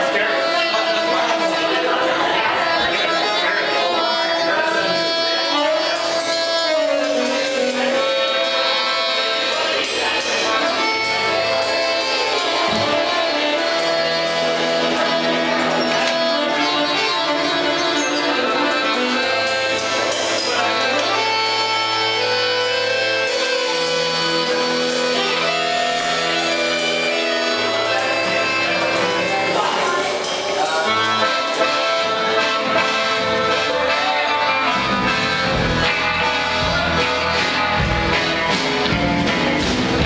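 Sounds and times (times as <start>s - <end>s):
accordion held notes: 0.0s - 40.0s
live band playing: 0.0s - 40.0s.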